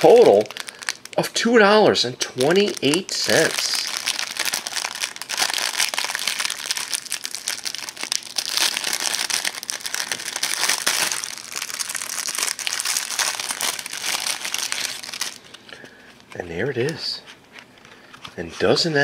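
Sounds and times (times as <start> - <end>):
plastic food packaging crinkling: 0.0 - 1.6, 2.2 - 18.6.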